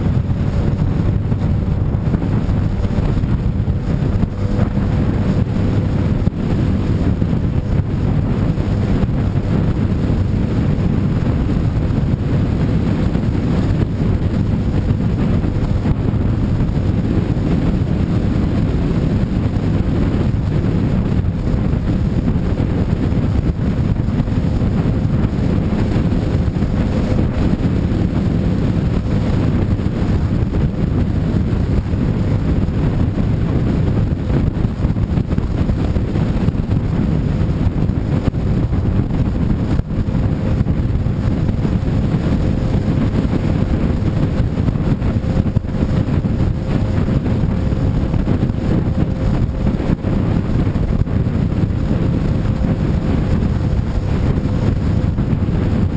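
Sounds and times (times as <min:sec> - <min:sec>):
motorcycle engine: 0:00.0 - 0:55.9
wind buffeting microphone: 0:00.0 - 0:55.9.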